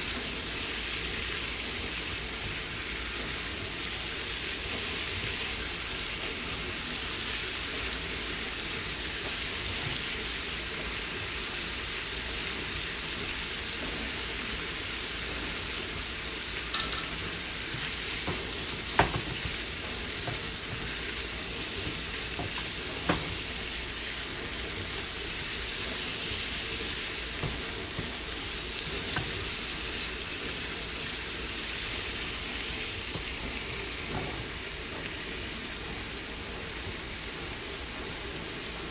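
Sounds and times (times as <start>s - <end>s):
chicken sizzling in a pan: 0.0s - 38.9s.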